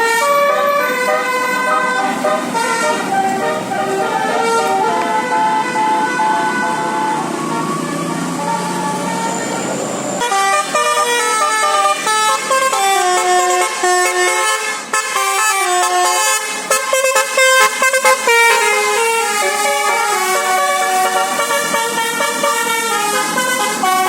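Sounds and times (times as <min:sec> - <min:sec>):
bus musical horn playing: 0:00.0 - 0:24.0.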